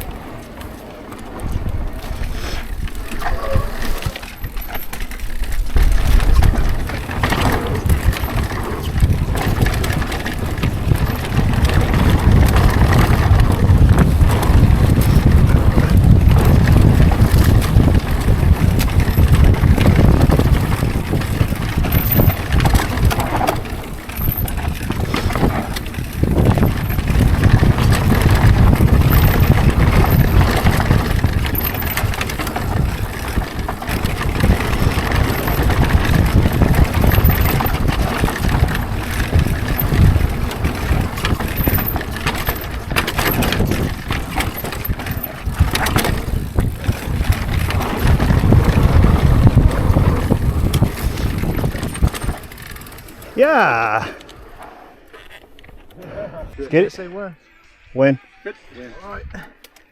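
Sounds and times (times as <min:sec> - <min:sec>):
wind rush on microphone: 0:00.0 - 0:54.6
tyres on dirt: 0:00.0 - 0:56.3
bike rattling over rough ground: 0:00.0 - 0:57.0.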